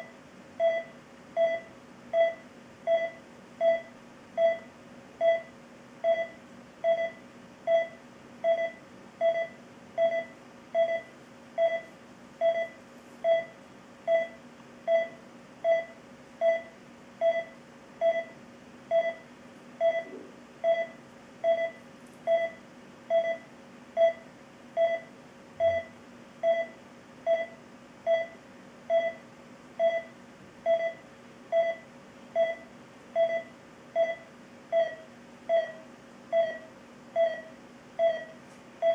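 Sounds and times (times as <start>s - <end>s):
patient monitor pulse beeps: 0.0s - 38.9s.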